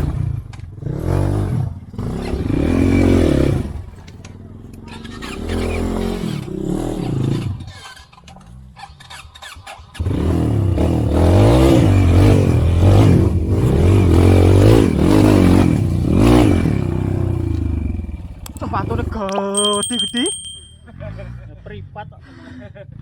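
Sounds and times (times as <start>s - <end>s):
motorcycle engine revving: 0.0s - 20.8s.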